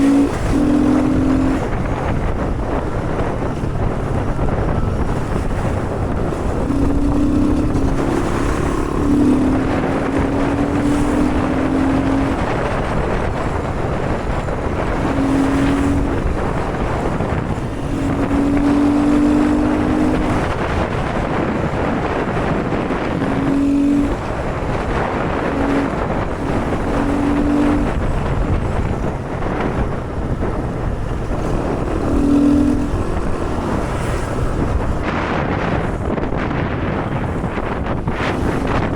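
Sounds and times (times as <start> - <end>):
motorbike engine humming: 0.0 - 38.9
wind rushing over microphone: 0.0 - 38.9.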